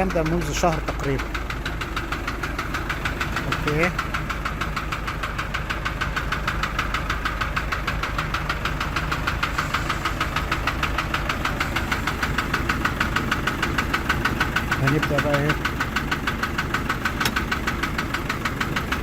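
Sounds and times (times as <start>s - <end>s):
rapid engine ticking: 0.0s - 19.0s
truck engine idling: 0.0s - 19.0s.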